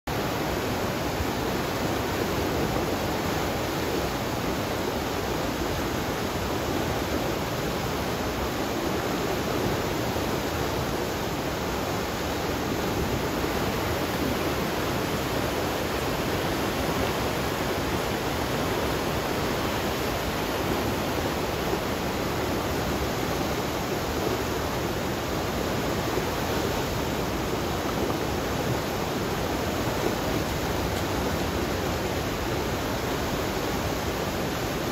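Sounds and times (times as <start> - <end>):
flood water rushing over weir: 0.1 - 34.9.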